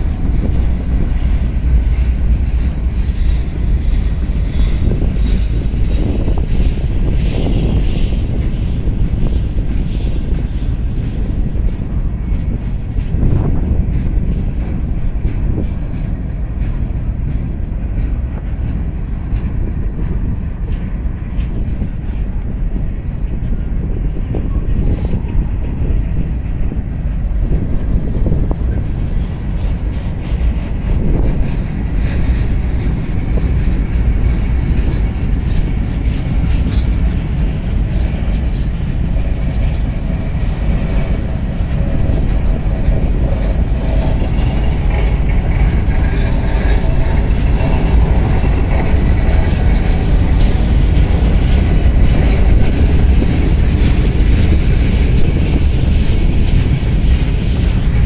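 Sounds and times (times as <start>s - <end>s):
freight cars rumbling on rails: 0.0s - 58.0s
wheels clickety-clack: 0.0s - 58.0s
wind buffeting microphone: 0.0s - 58.0s.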